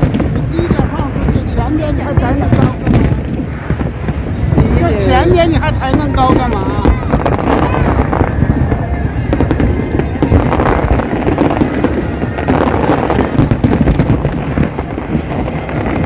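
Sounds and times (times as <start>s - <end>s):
deep rumble: 0.0s - 16.0s
fireworks bangs and crackles: 0.0s - 16.0s.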